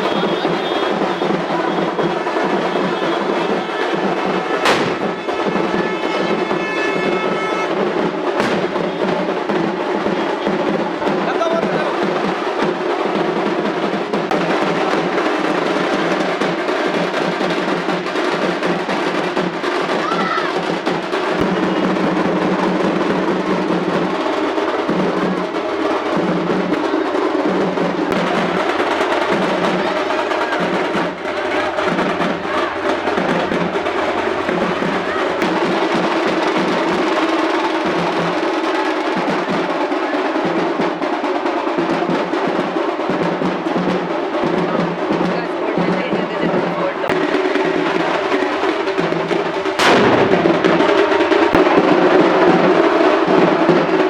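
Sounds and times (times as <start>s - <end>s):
music with drum beat: 0.0s - 54.0s.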